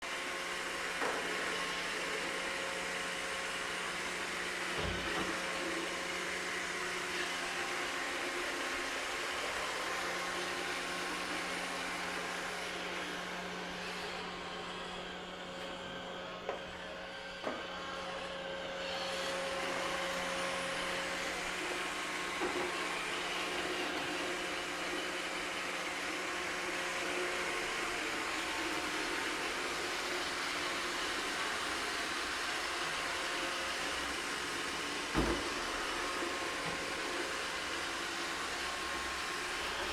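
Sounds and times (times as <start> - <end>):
robot vacuum whirring hum: 0.1 - 39.9.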